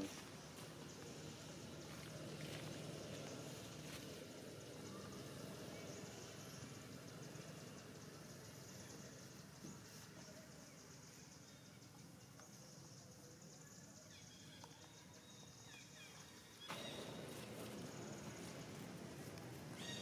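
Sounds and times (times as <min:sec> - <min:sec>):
steady high-pitched hiss: 0:00.0 - 0:20.0.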